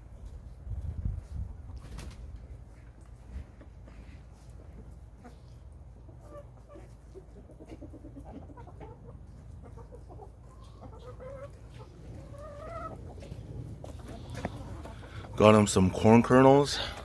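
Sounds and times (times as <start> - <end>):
chickens clucking: 0.1 - 17.0.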